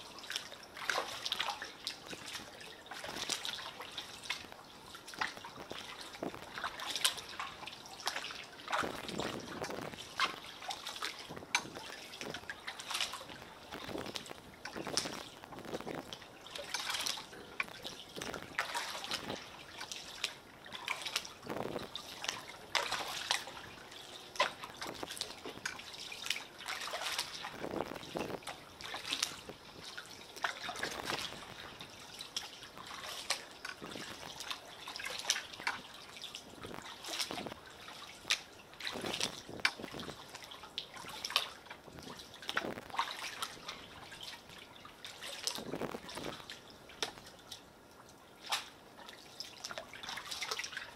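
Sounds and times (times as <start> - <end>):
small splashes and drips: 0.0 - 50.9
water lapping around pilings: 0.0 - 50.9.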